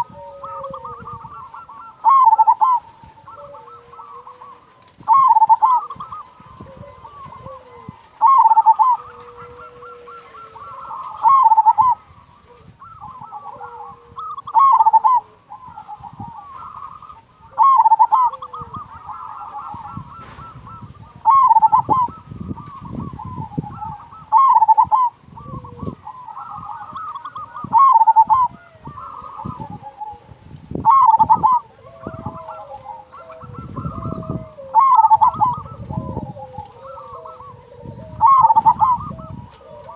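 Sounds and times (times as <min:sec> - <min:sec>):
dove cooing: 0:00.0 - 0:39.9
other birds calling: 0:00.0 - 0:39.9.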